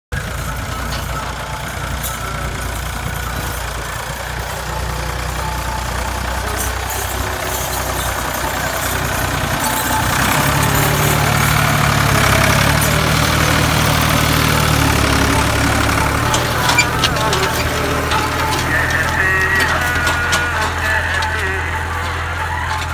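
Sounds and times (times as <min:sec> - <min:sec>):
tractor engine under load: 0:00.1 - 0:22.9.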